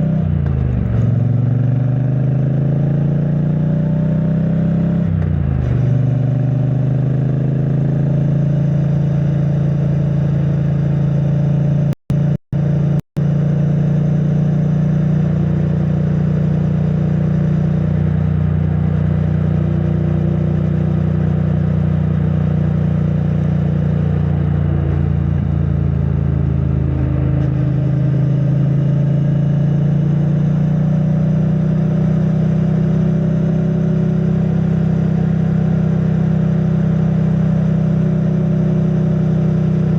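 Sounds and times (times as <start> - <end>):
muffled motorcycle engine cruising: 0.0 - 39.9.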